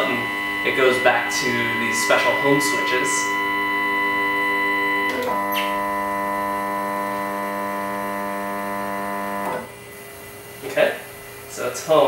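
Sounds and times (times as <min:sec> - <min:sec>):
stepper motors whining: 0:00.0 - 0:09.7.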